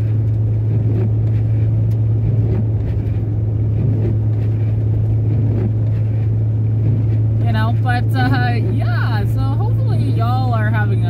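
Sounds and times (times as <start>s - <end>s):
car engine drone at cruise: 0.0s - 11.0s.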